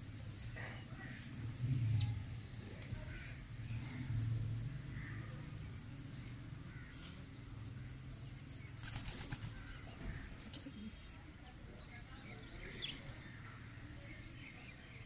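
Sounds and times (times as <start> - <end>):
pigeons calling softly: 0.0 - 15.0.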